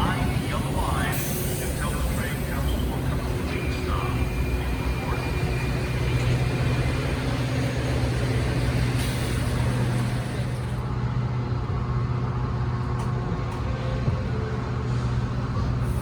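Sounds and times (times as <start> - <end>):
diesel train engine humming: 0.0 - 16.0.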